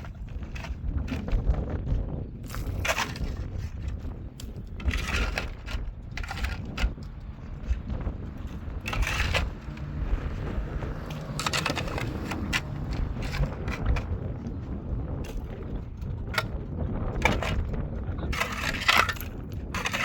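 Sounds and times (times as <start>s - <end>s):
crunching noises: 0.0s - 10.0s, 11.0s - 20.0s
steady low rumble: 0.0s - 20.0s.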